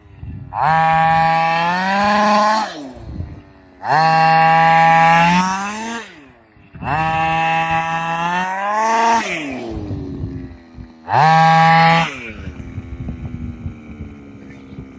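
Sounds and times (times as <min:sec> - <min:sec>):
two-stroke engine revving: 0:00.0 - 0:14.9.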